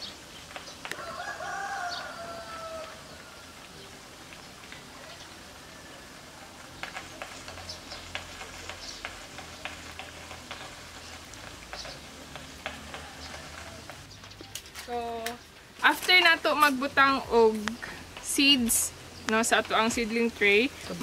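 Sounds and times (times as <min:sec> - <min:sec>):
crackling of handled potting soil: 0:00.0 - 0:21.0.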